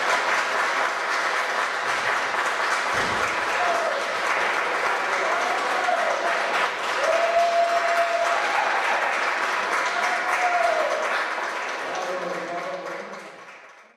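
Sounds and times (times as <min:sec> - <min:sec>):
congregation applauding: 0:00.0 - 0:13.9.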